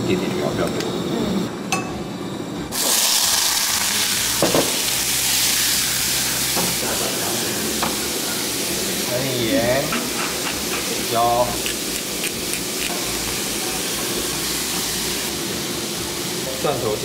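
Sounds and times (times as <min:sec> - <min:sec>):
tomatoes sizzling in hot oil: 0:02.7 - 0:17.0.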